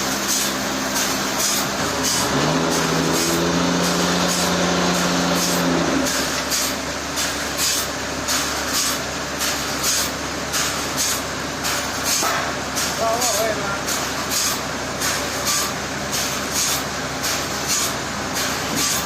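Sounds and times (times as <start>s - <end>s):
sawmill machinery drone: 0.0s - 19.0s.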